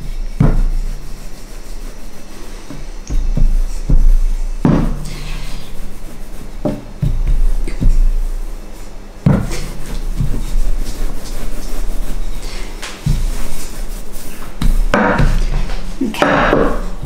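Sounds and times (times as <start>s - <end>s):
rolling pin knocks and thumps: 0.0s - 1.4s, 2.6s - 17.0s
rolling pin rubbing on pastry: 0.0s - 17.0s.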